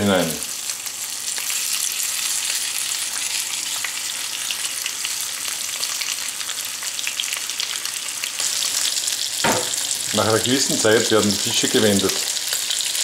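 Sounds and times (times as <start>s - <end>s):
fish sizzling in pan: 0.0s - 13.0s.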